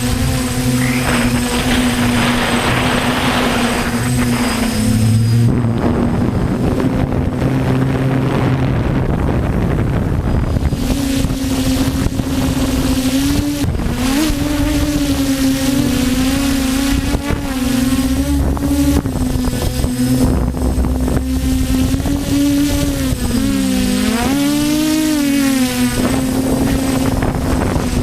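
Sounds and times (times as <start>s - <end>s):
quadcopter motors humming: 0.0s - 28.0s
wind buffeting microphone: 0.0s - 28.0s.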